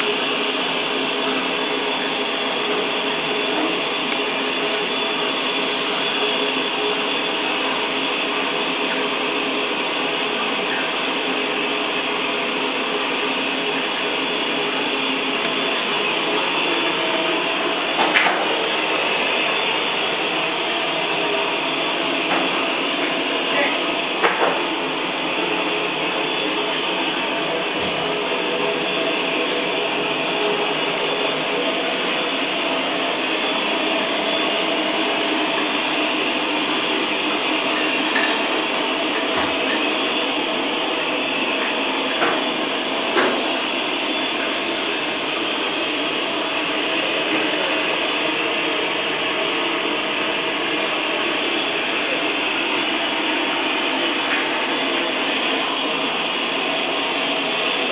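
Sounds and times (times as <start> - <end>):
motor blower whirring: 0.0 - 57.9.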